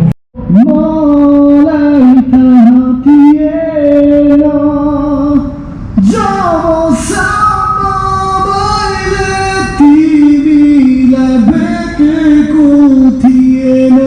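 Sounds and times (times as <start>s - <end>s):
person singing long notes: 0.0s - 14.0s.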